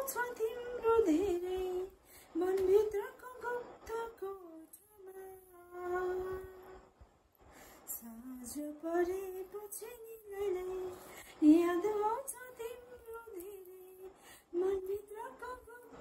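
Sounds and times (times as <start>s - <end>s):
woman singing unaccompanied: 0.0s - 6.9s, 7.9s - 16.0s.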